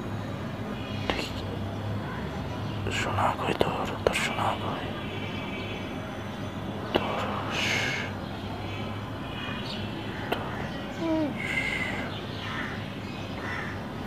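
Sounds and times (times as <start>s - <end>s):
low hum of room noise: 0.0s - 14.0s.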